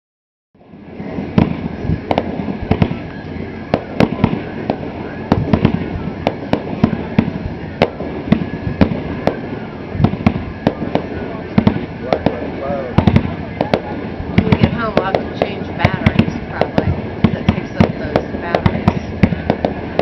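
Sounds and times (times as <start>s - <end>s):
fireworks bangs: 0.6s - 20.0s
rumble of fireworks bursts: 0.6s - 20.0s.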